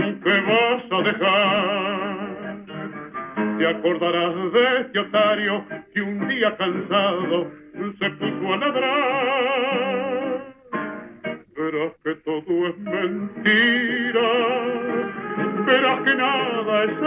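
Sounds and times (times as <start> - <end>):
person singing with vibrato: 0.0 - 2.6, 3.6 - 10.7, 11.5 - 17.0
instrumental accompaniment: 0.0 - 11.7, 12.7 - 17.0.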